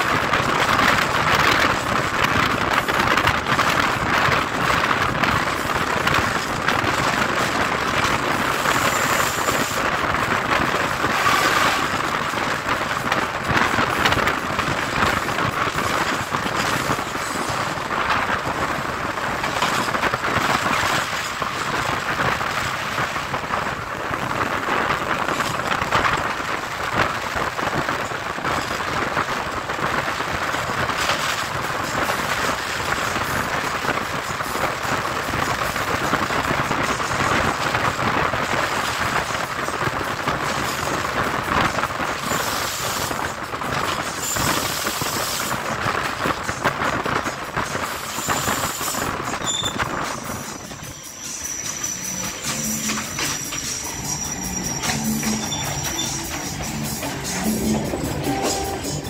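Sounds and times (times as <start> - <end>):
train wheels on track: 0.0 - 59.0
wind: 0.0 - 59.0.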